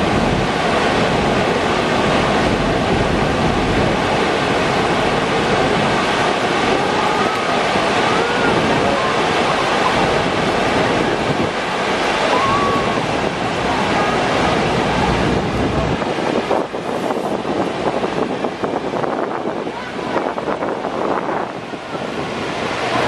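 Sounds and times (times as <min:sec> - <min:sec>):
waterfall roaring: 0:00.0 - 0:23.0
wind buffeting microphone: 0:00.0 - 0:23.0.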